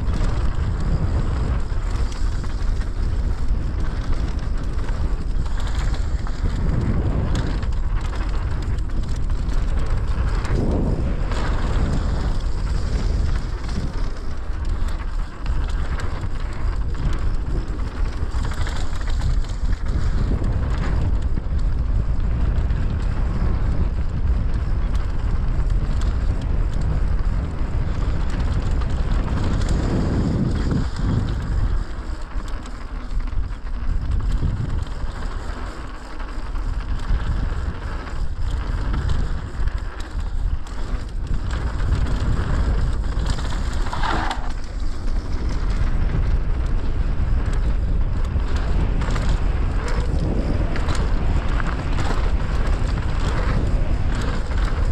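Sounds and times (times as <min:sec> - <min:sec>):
bike rattling over rough ground: 0:00.0 - 0:54.9
bike tyres rolling: 0:00.0 - 0:54.9
wind rushing over microphone: 0:00.0 - 0:54.9.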